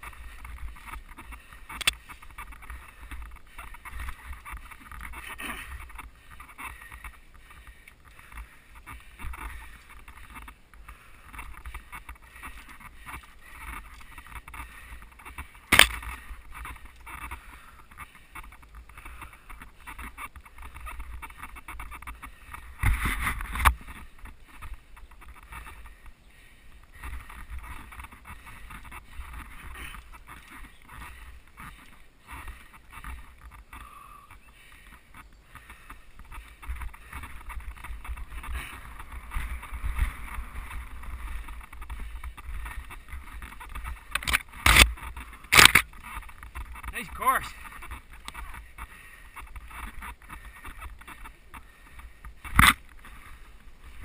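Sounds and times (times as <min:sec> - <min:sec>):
bike tyres and frame rattling: 0:00.0 - 0:54.0.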